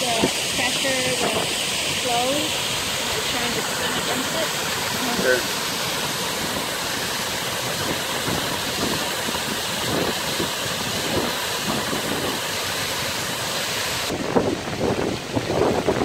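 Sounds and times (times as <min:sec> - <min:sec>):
waterfall pouring over rocks: 0:00.0 - 0:16.0.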